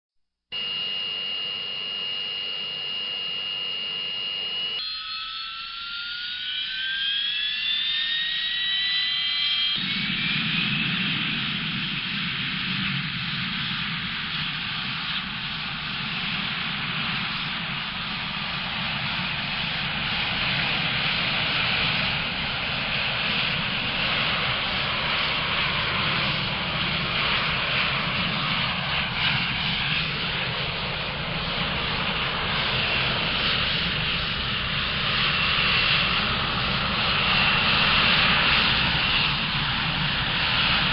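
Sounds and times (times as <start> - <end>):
jet engine whine: 0.5 - 40.9.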